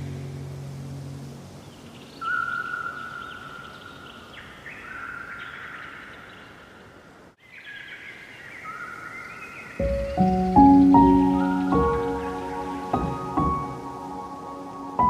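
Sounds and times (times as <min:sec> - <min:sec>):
songbirds singing: 0:01.2 - 0:15.0.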